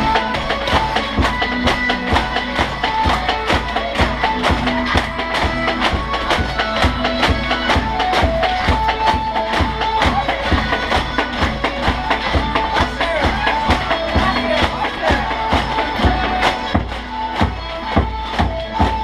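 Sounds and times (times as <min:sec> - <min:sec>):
music with fast beat and melody: 0:00.0 - 0:19.0.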